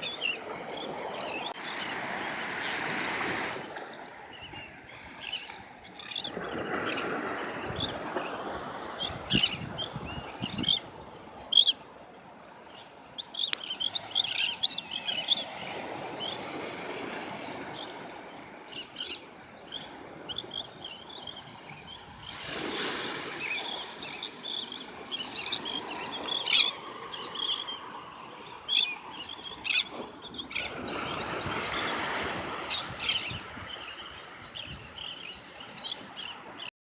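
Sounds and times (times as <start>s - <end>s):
birds chirping: 0.0s - 3.0s, 4.2s - 11.9s, 12.6s - 36.7s.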